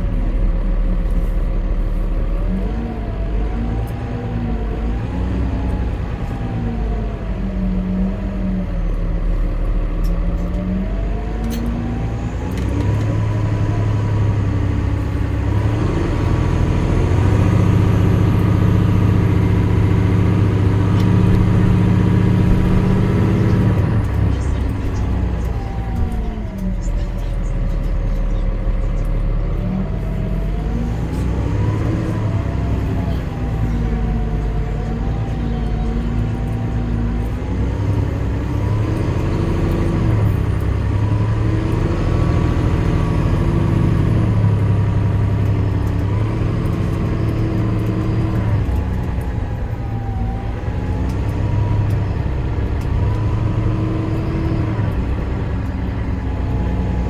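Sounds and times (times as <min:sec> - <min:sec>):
bus diesel engine: 0:00.0 - 0:57.0
low road rumble: 0:00.0 - 0:57.0.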